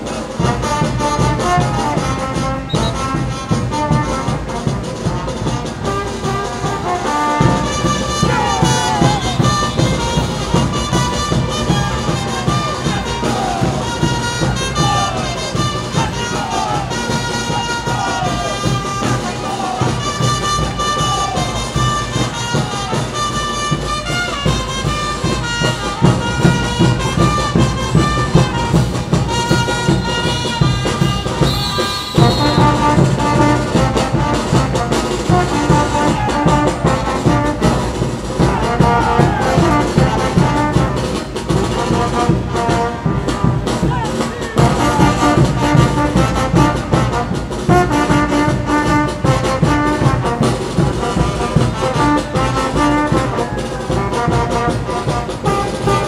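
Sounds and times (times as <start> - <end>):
brass instruments playing: 0.0 - 56.0
driving drum beat: 0.0 - 56.0.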